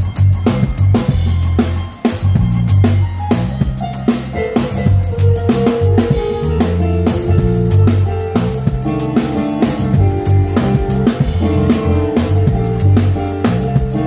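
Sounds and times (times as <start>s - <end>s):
band music with drums bass guitar: 0.0s - 14.0s.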